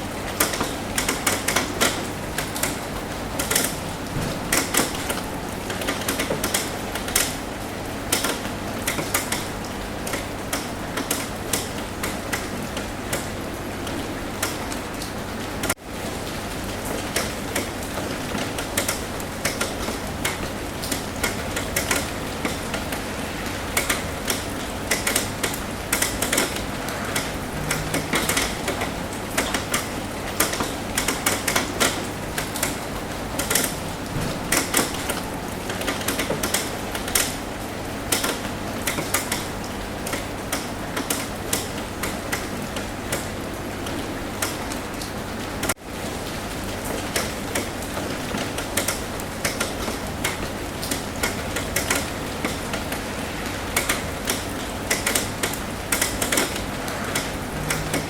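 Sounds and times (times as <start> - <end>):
rain tapping on a roof: 0.0 - 58.0.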